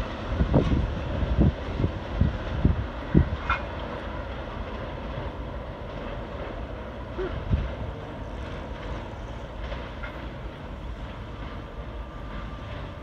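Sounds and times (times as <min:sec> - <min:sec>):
train rumbling away: 0:00.0 - 0:13.0.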